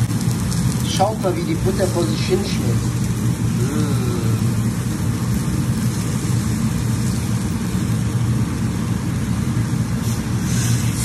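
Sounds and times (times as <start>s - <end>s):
low hum: 0.0s - 11.0s
steak sizzling in a pan: 0.0s - 11.0s.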